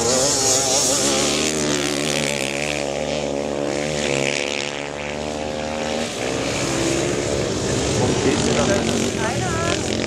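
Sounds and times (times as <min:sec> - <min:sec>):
quad engines at high revs: 0:00.0 - 0:10.0
rough quad engine passing: 0:00.0 - 0:10.0.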